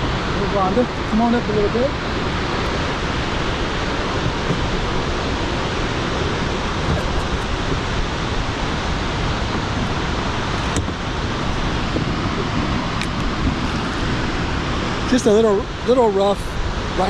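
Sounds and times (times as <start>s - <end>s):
rough water churning: 0.0s - 17.0s
waterfall roaring: 0.0s - 17.0s.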